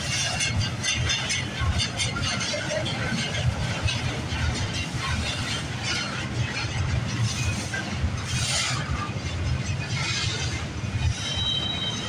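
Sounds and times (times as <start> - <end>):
train wheels rumbling on rail: 0.0 - 12.0
wheels squealing on rail: 0.0 - 12.0.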